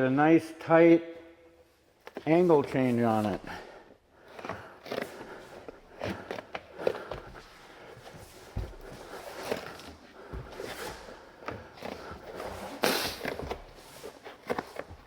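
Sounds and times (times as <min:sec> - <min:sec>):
rubber membrane rubbing: 0:02.1 - 0:15.0.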